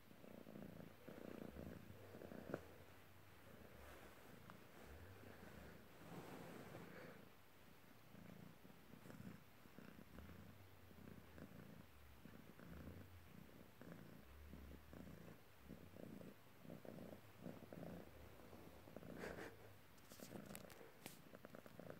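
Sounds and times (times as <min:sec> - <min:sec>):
cat purring: 0:00.0 - 0:21.9.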